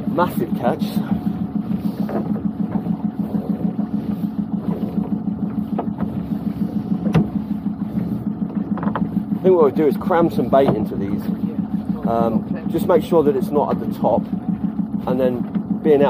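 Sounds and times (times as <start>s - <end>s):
boat engine throbbing: 0.0s - 16.0s.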